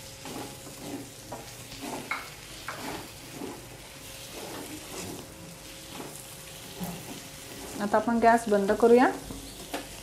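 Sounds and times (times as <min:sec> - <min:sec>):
light sizzle of frying: 0:00.0 - 0:10.0
metal spatula scraping a pan: 0:00.2 - 0:08.2.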